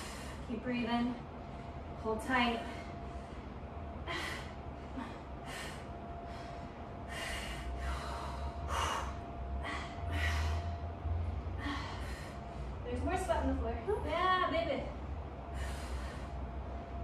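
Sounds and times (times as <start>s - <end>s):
hard breathing from exertion: 0.0s - 0.5s, 1.2s - 12.8s, 15.3s - 17.0s.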